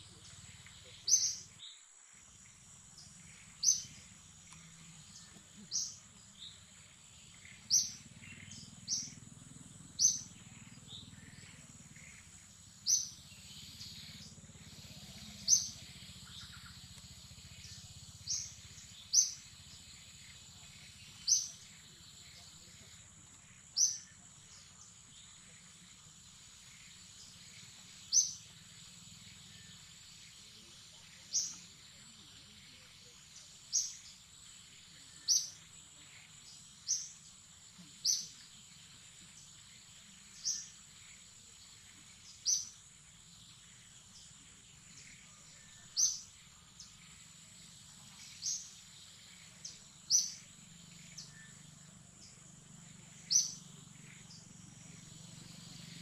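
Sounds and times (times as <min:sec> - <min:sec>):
bird chirping: 0:00.0 - 0:56.0
low outdoor hum: 0:00.0 - 0:56.0.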